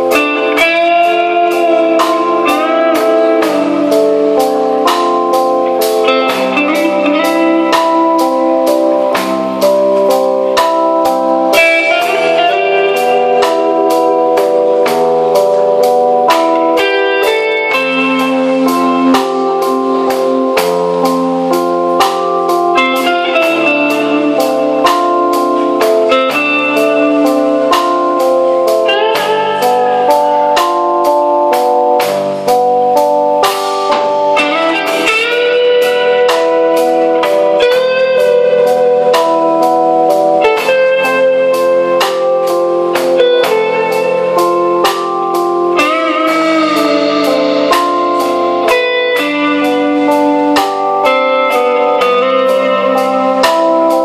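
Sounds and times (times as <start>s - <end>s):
bass guitar: 0.0s - 54.0s
drum kit steady beat: 0.0s - 54.0s
lead electric guitar melody: 0.0s - 54.0s
rhythm guitar: 0.0s - 54.0s.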